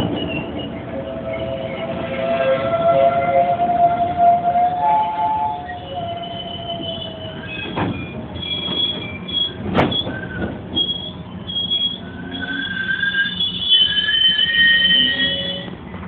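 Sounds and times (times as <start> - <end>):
high metal squeals: 0.0 - 15.8
train wheels rumbling on rail: 0.0 - 16.0.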